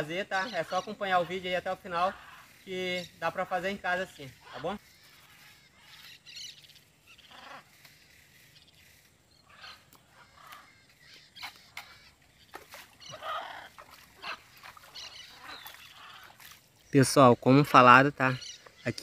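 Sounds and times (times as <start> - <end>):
faint animal calls: 0.0 - 16.9.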